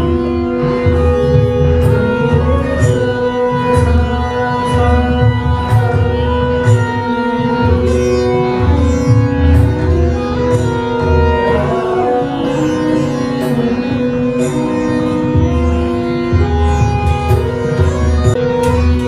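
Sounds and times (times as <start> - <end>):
instrumental music with drone: 0.0 - 19.0.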